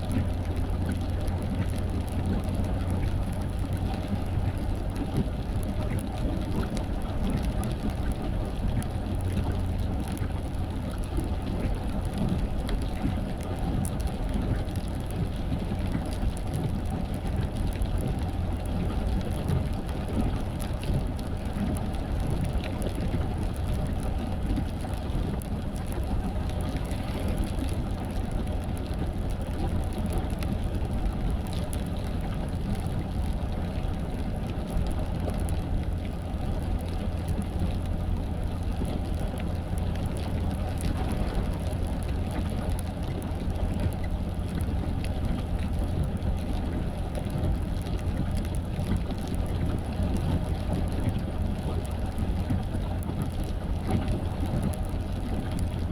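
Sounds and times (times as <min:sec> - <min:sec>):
rain falling on car: 0:00.0 - 0:55.9.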